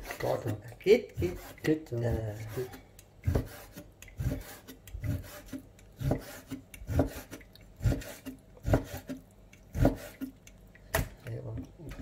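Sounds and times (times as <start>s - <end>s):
knife slicing raw meat: 0.0s - 10.3s.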